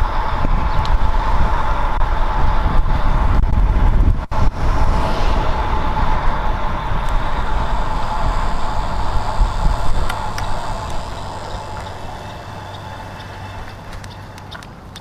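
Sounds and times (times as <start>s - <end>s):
bicycle road noise: 0.0s - 15.0s
wind on microphone: 0.0s - 15.0s.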